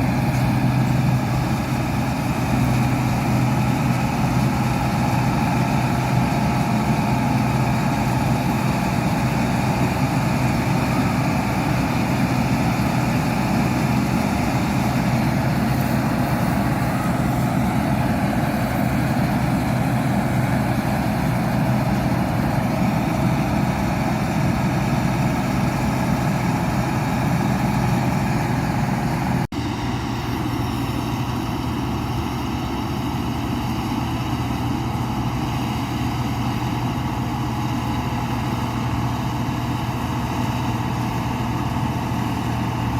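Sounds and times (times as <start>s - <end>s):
combine harvester engine running: 0.0s - 42.9s.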